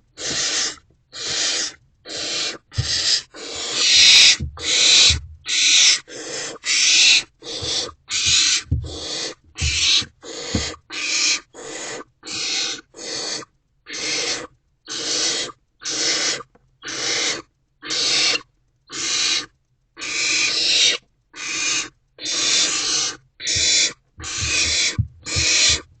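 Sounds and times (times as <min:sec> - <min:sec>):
owl chicks hissing: 0:00.1 - 0:25.9.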